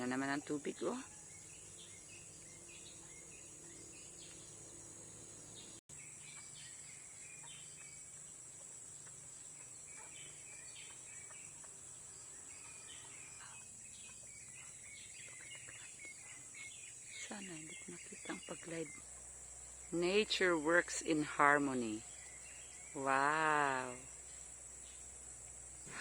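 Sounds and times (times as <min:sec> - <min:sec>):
bird chirps: 0:00.0 - 0:25.1.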